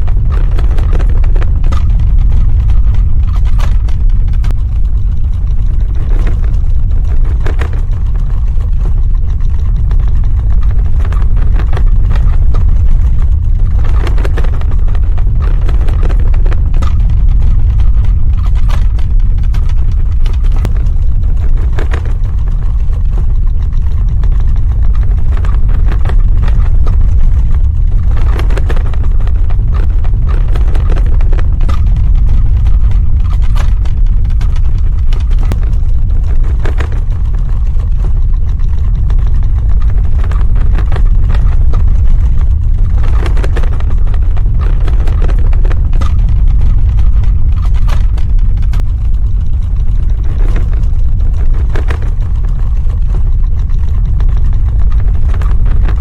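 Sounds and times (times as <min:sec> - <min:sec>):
crackles and rattles: 0:00.0 - 0:56.0
earthquake rumbling: 0:00.0 - 0:56.0.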